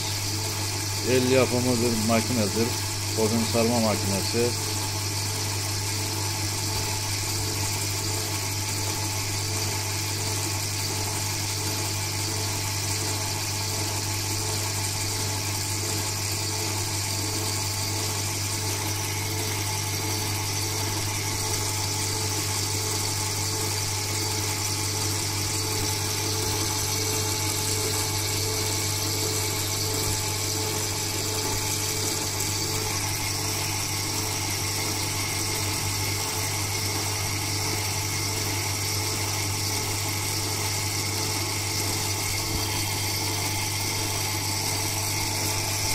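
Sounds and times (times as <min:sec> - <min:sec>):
coil-winding machine humming: 0:00.0 - 0:45.9.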